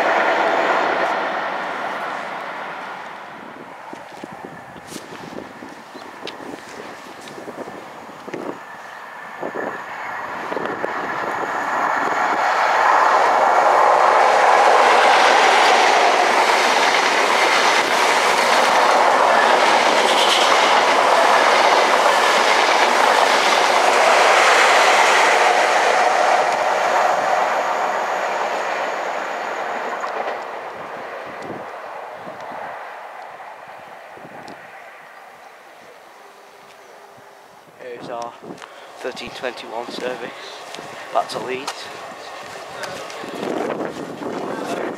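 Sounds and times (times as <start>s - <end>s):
train passing at speed: 0.0s - 44.9s.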